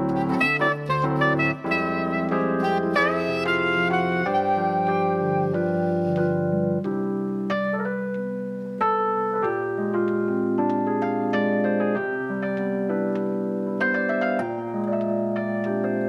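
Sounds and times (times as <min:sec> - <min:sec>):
slow solo piano piece: 0:00.0 - 0:16.0.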